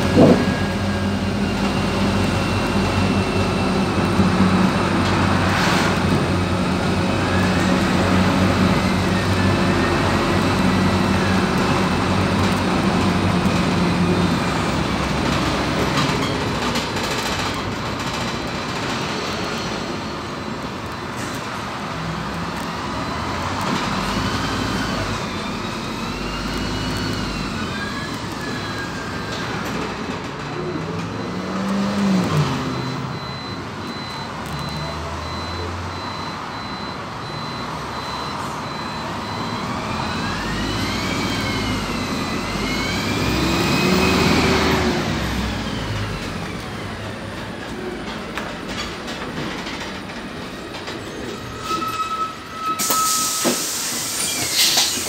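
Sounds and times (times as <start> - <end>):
bus drivetrain whine: 0.0 - 55.0
bus road rumble: 0.0 - 55.0.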